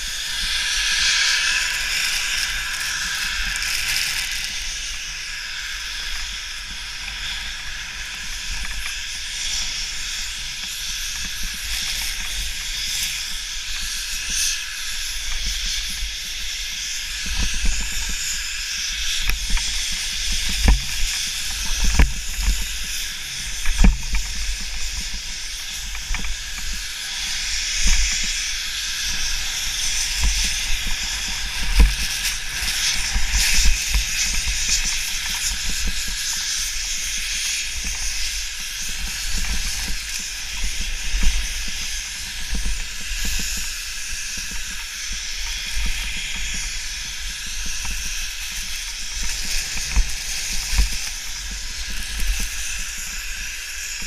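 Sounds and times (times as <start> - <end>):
skis hissing over snow: 0.0 - 54.0.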